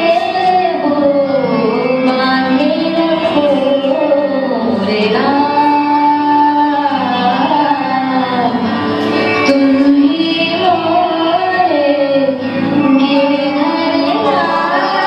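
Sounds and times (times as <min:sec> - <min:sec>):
woman singing with music: 0:00.0 - 0:15.0.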